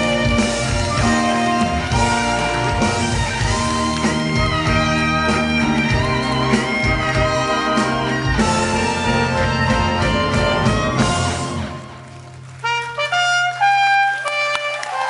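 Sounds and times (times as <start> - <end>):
guitar: 0.0 - 12.6
live band playing: 0.0 - 15.0.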